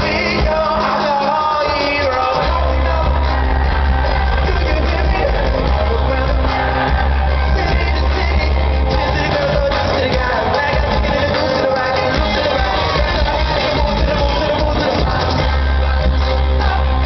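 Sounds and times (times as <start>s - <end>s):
crowd shouting: 0.0s - 17.0s
heavy bass beat: 0.0s - 17.0s
man singing: 0.0s - 17.0s.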